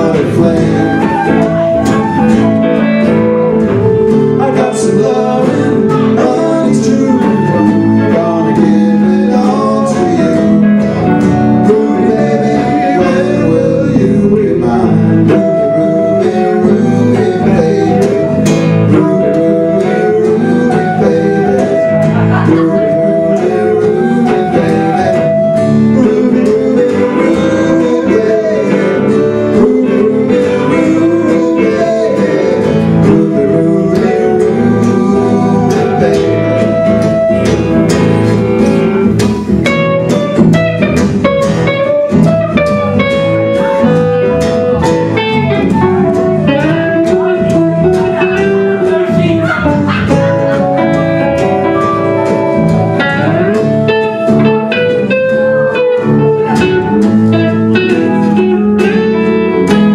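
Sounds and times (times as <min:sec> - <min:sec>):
bluesy band music with guitars: 0:00.0 - 0:59.9.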